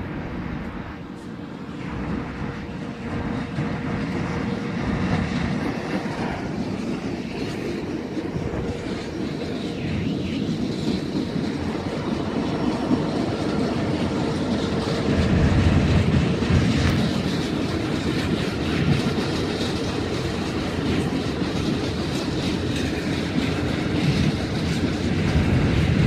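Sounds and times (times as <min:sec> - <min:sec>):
train wheels clattering over rail joints: 0:02.1 - 0:26.0.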